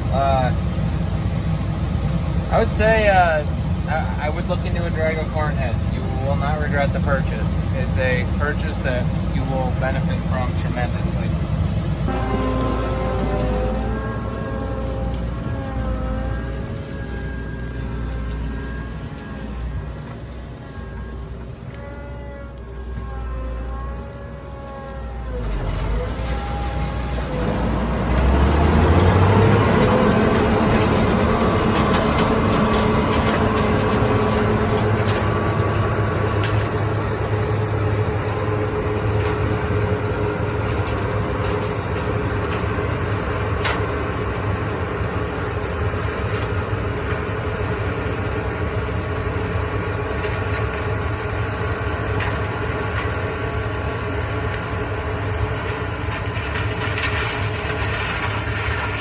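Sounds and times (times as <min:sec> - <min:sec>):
heavy diesel engine revving: 0:00.0 - 0:59.0.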